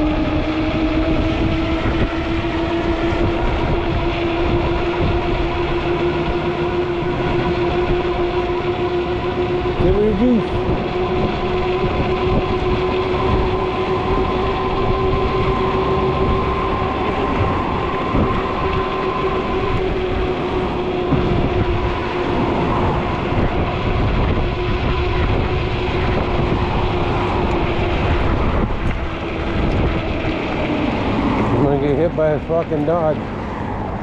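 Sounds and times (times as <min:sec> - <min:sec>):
electric motor whining: 0:00.0 - 0:34.0
wind rumble on microphone: 0:00.0 - 0:34.0.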